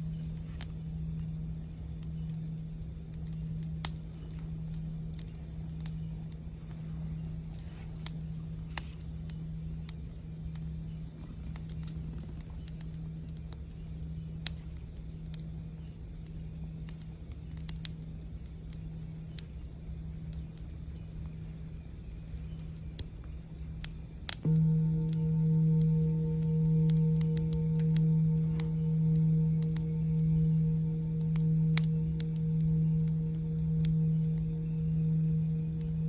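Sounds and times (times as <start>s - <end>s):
campfire crackling and popping: 0.0s - 36.0s
singing bowl hum: 0.0s - 36.0s.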